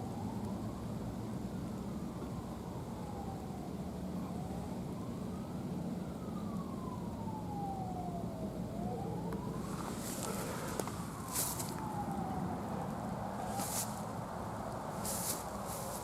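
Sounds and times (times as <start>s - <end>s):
siren wailing: 2.0s - 16.0s.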